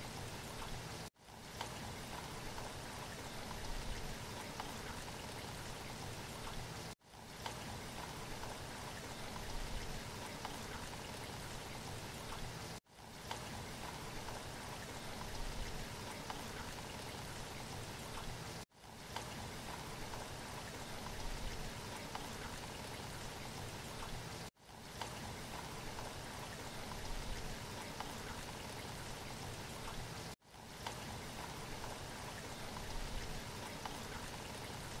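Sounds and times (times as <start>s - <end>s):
rain-like hiss: 0.0s - 35.0s.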